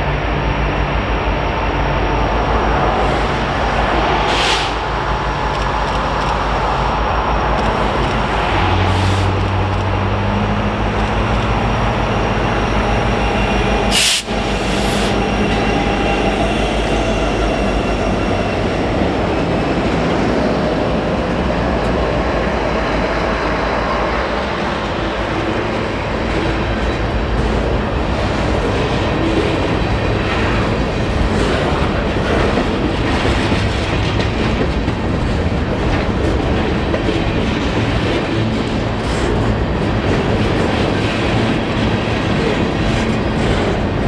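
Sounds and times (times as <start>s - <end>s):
freight train rumbling on rails: 0.0s - 44.0s.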